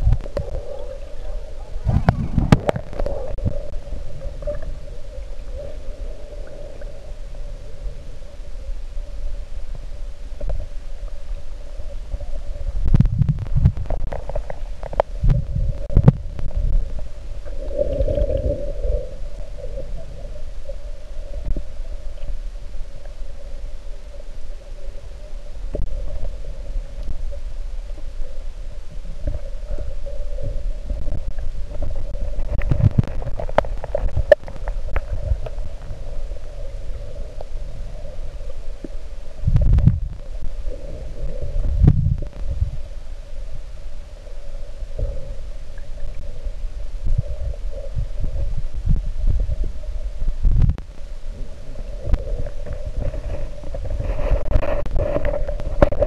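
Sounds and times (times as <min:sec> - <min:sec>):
steady hum: 0:00.0 - 0:56.0
underwater rumbling and knocking: 0:00.0 - 0:56.0.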